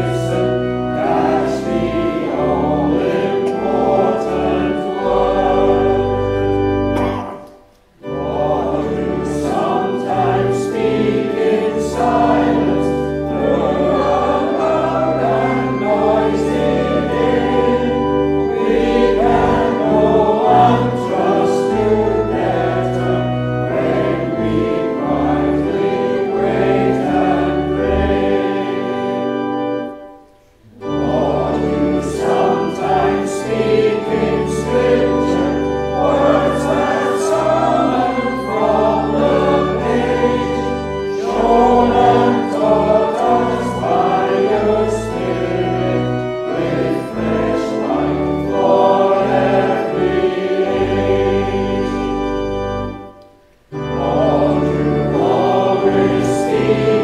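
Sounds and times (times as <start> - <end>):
choir singing a hymn: 0.0 - 57.0
instrumental accompaniment: 0.0 - 57.0.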